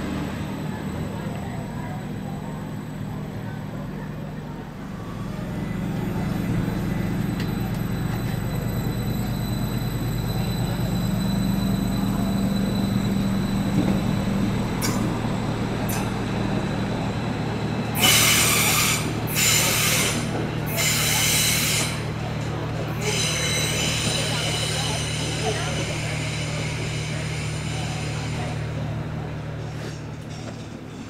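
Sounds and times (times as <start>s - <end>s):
train electric hum: 0.0s - 31.0s.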